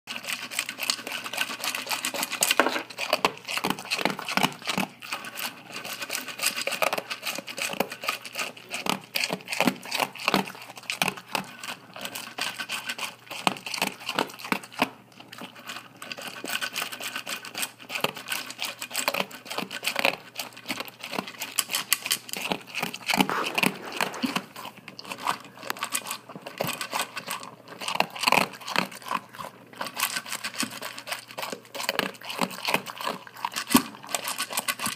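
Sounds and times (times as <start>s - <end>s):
dog crunching kibble: 0.1s - 34.9s.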